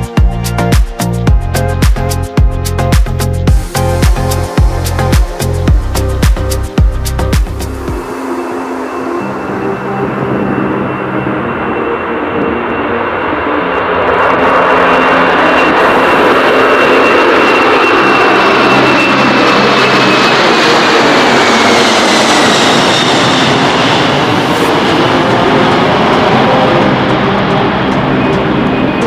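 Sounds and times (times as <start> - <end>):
high jet engine whine: 2.6 - 29.0
loud jet engine roar: 3.5 - 29.0.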